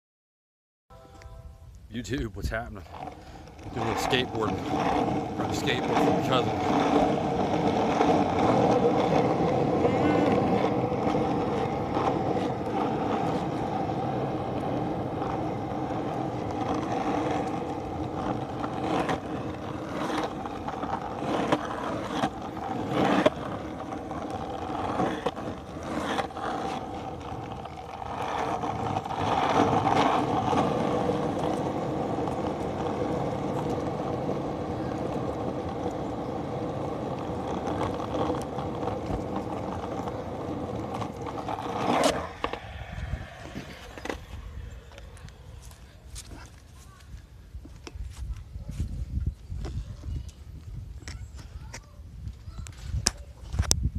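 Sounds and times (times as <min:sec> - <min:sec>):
skateboard wheels rolling on pavement: 0:01.0 - 0:53.9
skateboard wheels clacking on cracks: 0:02.8 - 0:48.0.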